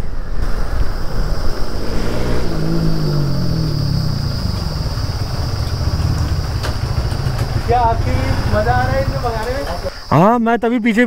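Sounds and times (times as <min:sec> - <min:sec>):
motorcycle engine slowing: 0:00.6 - 0:09.9.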